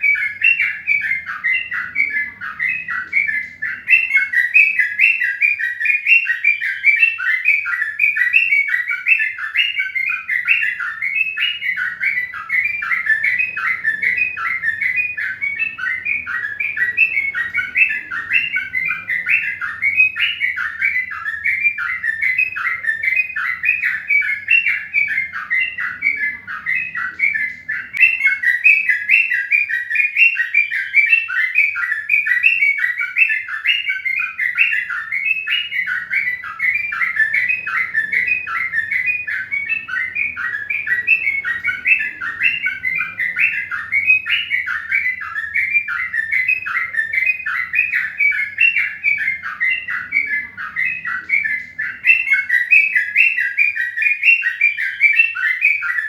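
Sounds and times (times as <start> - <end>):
birds chirping rapidly: 0.0 - 56.0.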